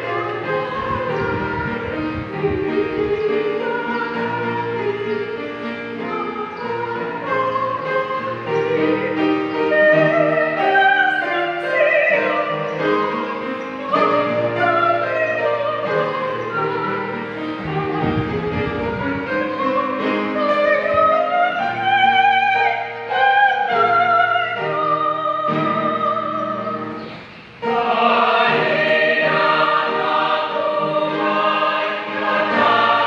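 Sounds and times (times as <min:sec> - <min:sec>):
woman singing: 0:00.0 - 0:26.9.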